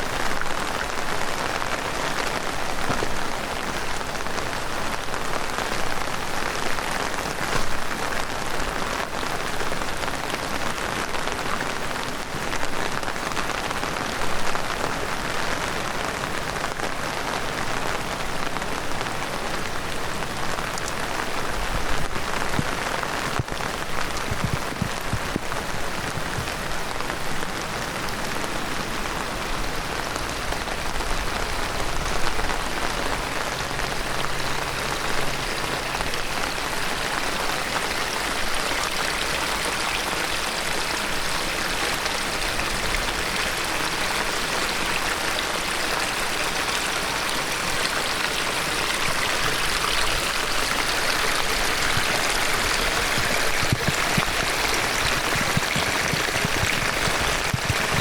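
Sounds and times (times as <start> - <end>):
heavy rain falling: 0.0 - 58.0
raindrops ticking: 0.0 - 58.0.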